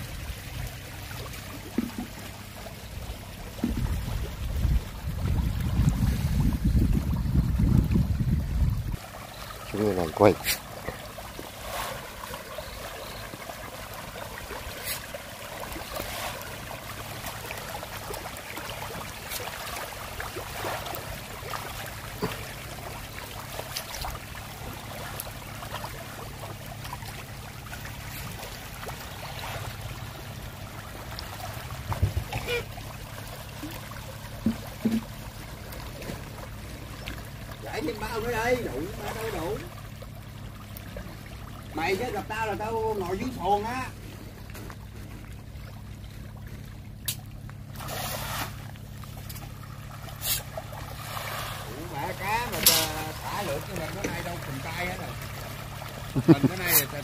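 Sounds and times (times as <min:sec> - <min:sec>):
fish splashing at surface: 0:08.7 - 0:57.0.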